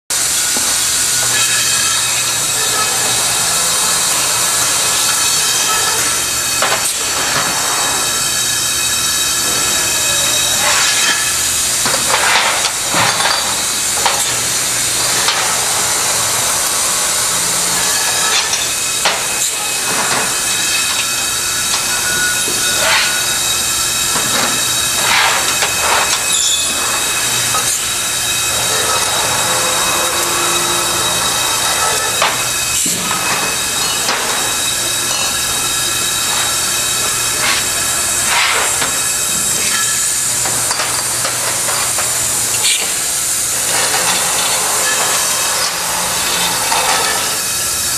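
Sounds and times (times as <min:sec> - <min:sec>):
bottling machine hissing and whining: 0:00.1 - 0:47.9.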